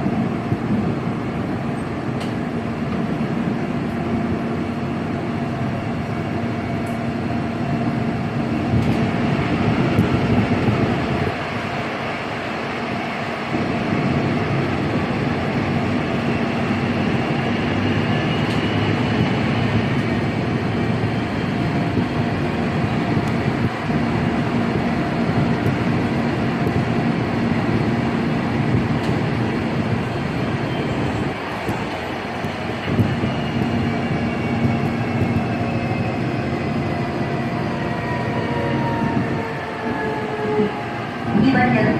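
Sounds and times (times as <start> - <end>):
train wheels on rails: 0.0 - 41.9.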